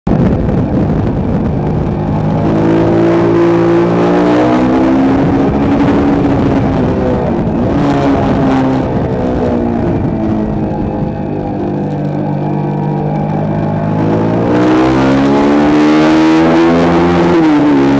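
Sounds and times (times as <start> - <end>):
motorcycle engine running hard: 0.1 - 17.9.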